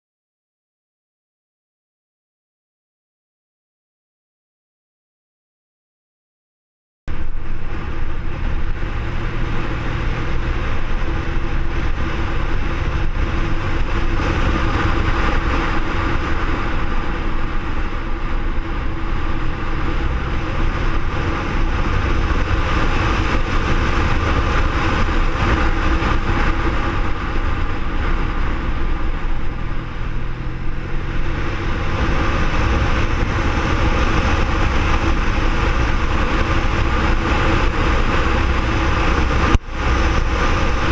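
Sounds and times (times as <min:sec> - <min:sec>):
motorcycle engine running: 0:07.1 - 0:40.9
wind and road noise: 0:07.1 - 0:40.9.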